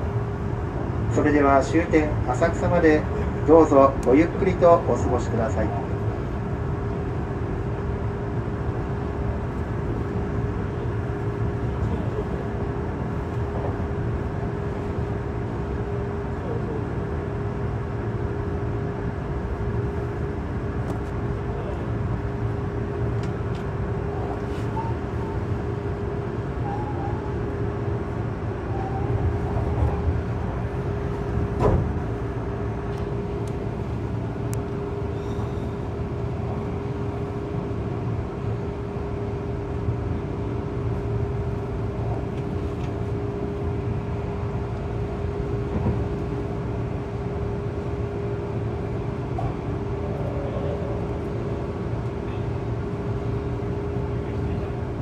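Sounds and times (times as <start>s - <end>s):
train rumble and hum: 0.0s - 55.0s.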